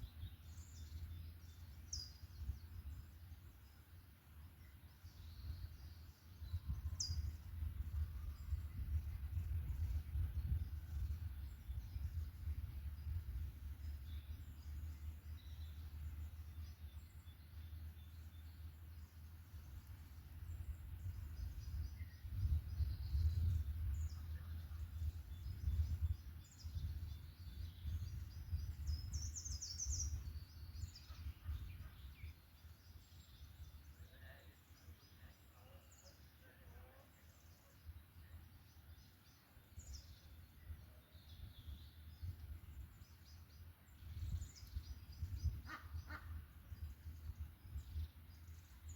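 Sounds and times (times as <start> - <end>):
songbird calls and chirps: 0.0 - 48.9.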